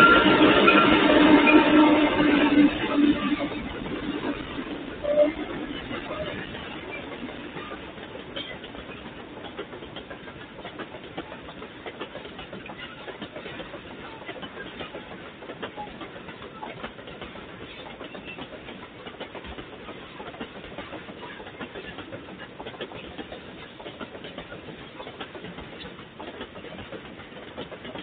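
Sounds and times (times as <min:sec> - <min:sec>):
train wheels rumbling on track: 0:00.0 - 0:28.0
clicks and knocks of wagons: 0:01.4 - 0:28.0.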